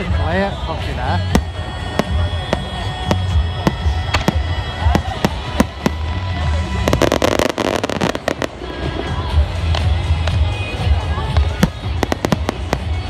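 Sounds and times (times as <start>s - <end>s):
music playing: 0.0s - 13.0s
fireworks banging and crackling: 0.7s - 13.0s.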